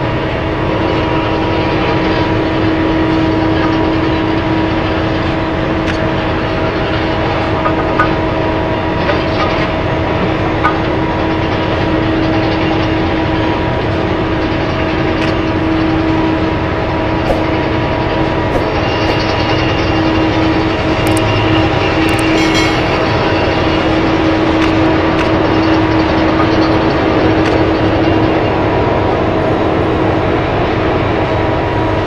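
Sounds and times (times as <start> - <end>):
truck engine droning whine: 0.0 - 32.0.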